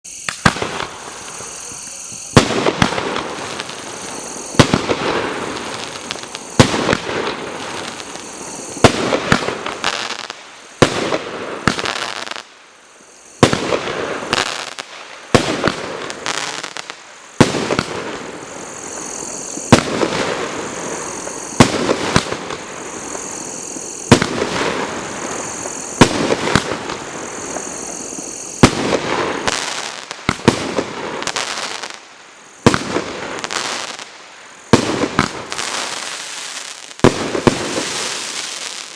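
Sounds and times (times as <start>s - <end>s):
firework crackling and hissing: 0.0s - 38.9s
firework bangs: 0.1s - 12.5s, 13.4s - 32.0s, 32.6s - 38.9s.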